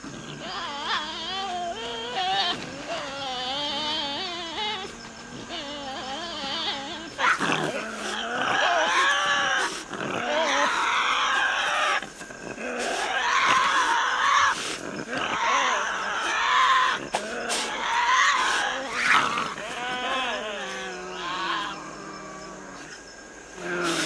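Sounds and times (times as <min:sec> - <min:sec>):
animals screeching and growling: 0:00.0 - 0:24.0.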